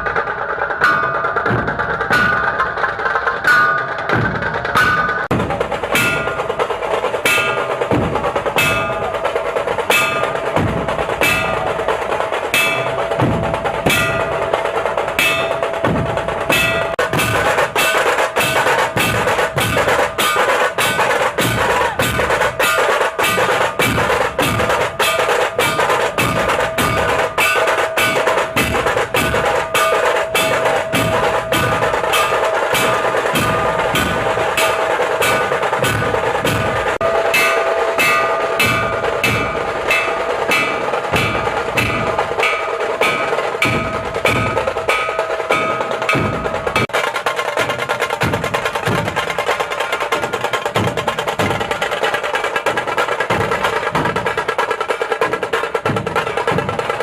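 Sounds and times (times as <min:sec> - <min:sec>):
music with fast percussion beat: 0:00.0 - 0:57.0.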